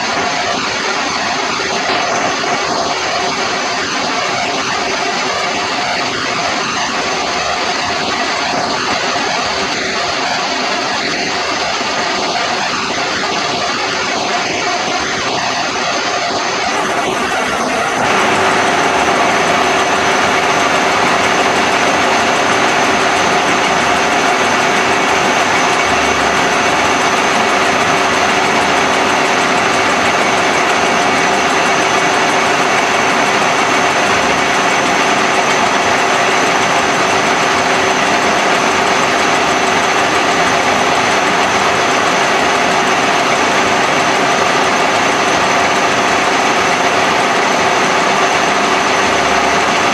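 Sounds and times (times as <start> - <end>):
machine humming and whining: 0.0 - 49.9.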